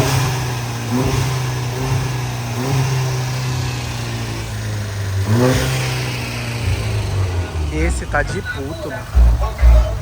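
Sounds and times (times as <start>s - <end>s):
car engine running and revving: 0.0s - 10.0s.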